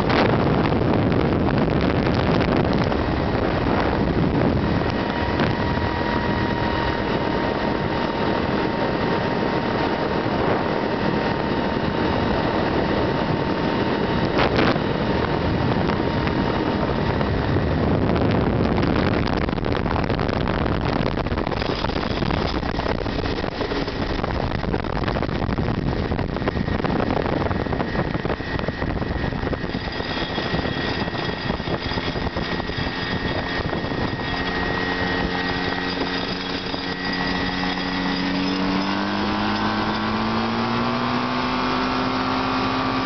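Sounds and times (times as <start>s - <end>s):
ultralight plane engine and propeller: 0.0s - 43.0s.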